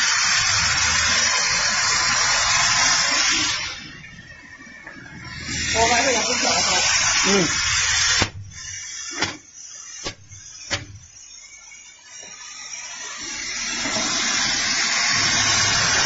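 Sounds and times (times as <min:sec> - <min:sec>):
rushing machine noise: 0:00.0 - 0:16.0.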